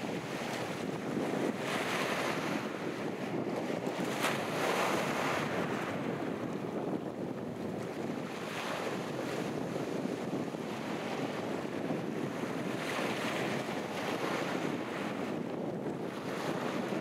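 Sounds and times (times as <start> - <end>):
sea waves breaking on shore: 0.0 - 17.0
wind buffeting microphone: 0.0 - 17.0.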